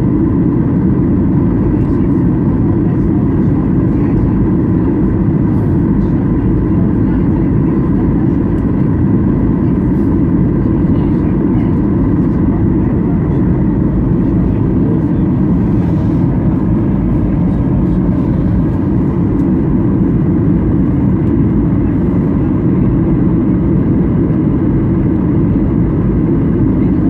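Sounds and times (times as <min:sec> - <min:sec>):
airliner engines rumbling in cabin: 0:00.0 - 0:27.0
faint steady whine: 0:00.0 - 0:27.0.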